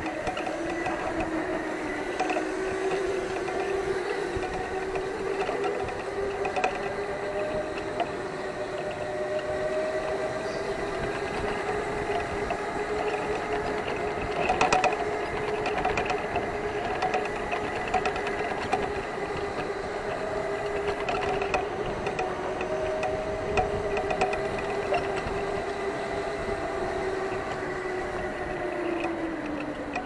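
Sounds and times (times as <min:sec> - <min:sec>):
electric go-kart motor whining: 0:00.0 - 0:30.0.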